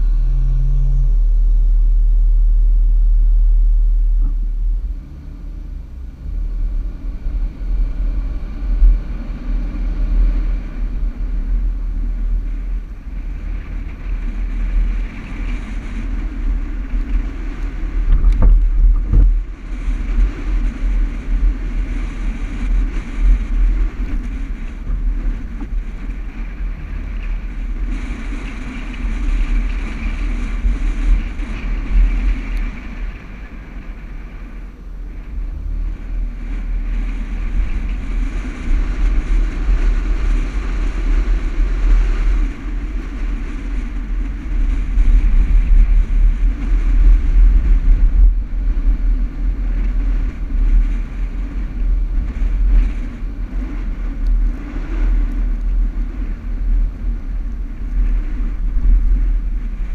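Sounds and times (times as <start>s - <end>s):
vehicle engine: 0.0s - 59.9s
wind buffeting microphone: 0.0s - 59.9s.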